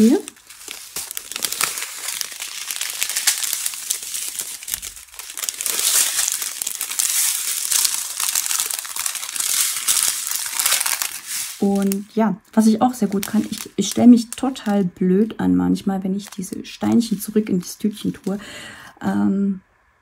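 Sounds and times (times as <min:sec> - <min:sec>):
plastic bags crinkling: 0:00.0 - 0:18.5.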